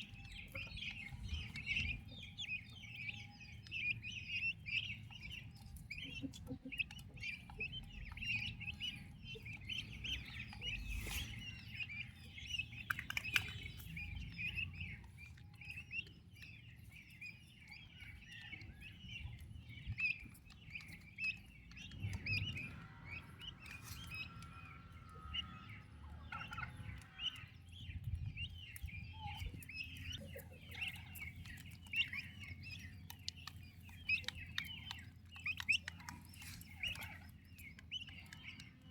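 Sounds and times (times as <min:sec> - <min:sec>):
low background rumble: 0:00.0 - 0:38.9
poults peeping: 0:00.0 - 0:38.9.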